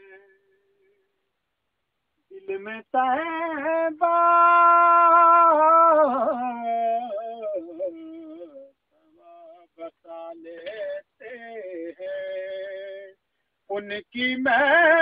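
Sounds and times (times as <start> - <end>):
person singing unaccompanied: 0.0 - 0.9, 2.3 - 15.0.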